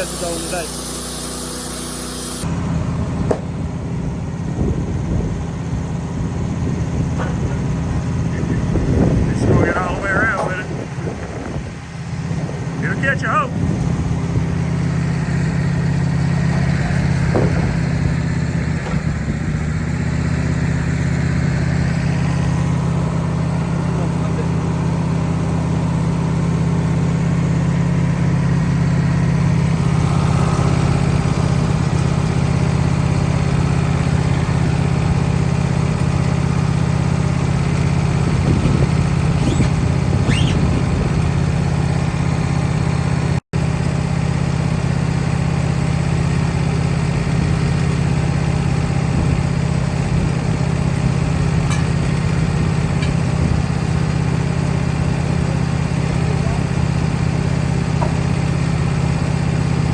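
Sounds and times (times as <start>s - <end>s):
sawmill engine humming: 0.0s - 59.9s.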